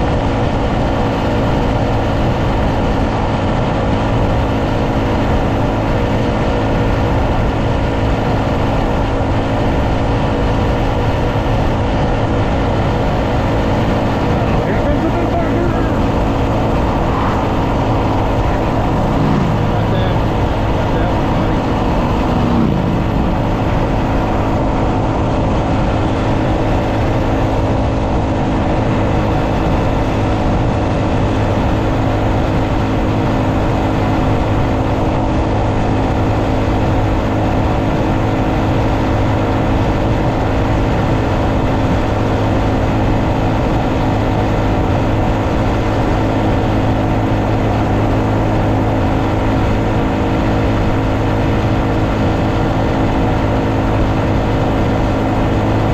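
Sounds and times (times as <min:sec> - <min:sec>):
motorcycle engine cruising: 0:00.0 - 0:55.9
road noise: 0:00.0 - 0:55.9
wind noise: 0:00.0 - 0:55.9.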